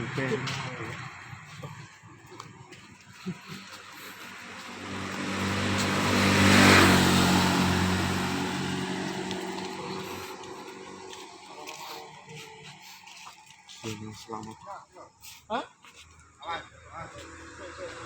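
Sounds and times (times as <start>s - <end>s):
vehicle driving past: 0.0s - 13.9s, 16.6s - 18.0s.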